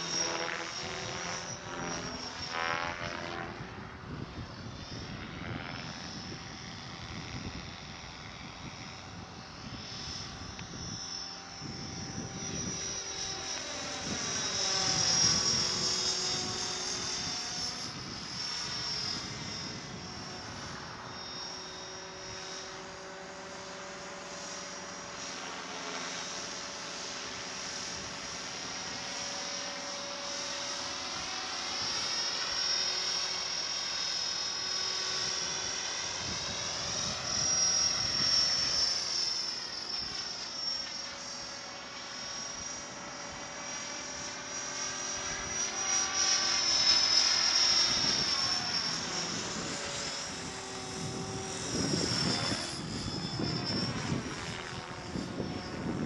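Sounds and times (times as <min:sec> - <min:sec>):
helicopter motor whine: 0:00.0 - 0:56.0
rotor blades whirring: 0:00.0 - 0:56.0.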